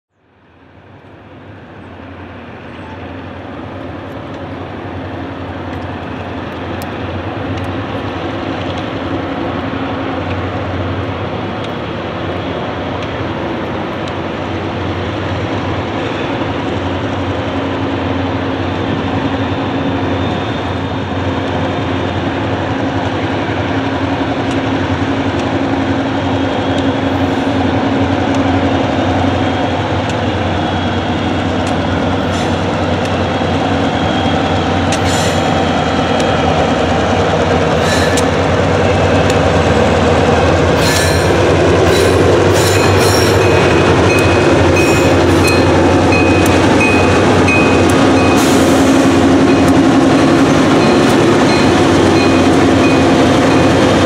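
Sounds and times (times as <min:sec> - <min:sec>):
diesel locomotive engine drone: 0:00.1 - 0:54.0.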